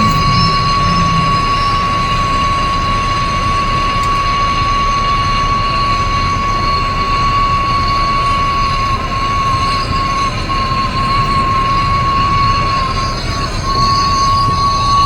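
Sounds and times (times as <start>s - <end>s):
machine whine and rumble: 0.0s - 15.0s.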